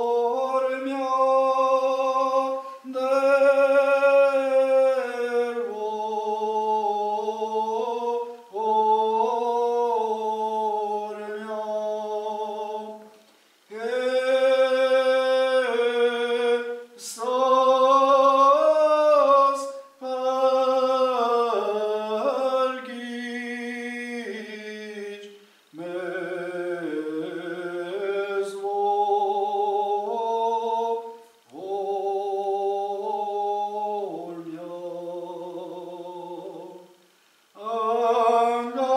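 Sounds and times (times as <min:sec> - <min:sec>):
man singing chant: 0:00.0 - 0:38.9.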